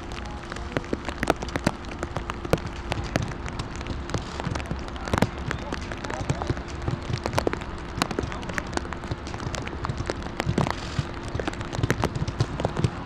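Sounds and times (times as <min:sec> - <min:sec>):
faint steady hum: 0:00.0 - 0:13.0
heavy rain falling: 0:00.0 - 0:13.0.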